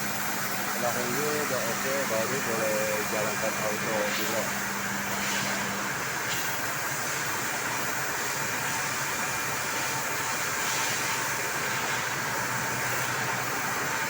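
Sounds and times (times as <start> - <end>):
cnc machine whirring: 0.0 - 14.0
thin machine whine: 0.0 - 14.0.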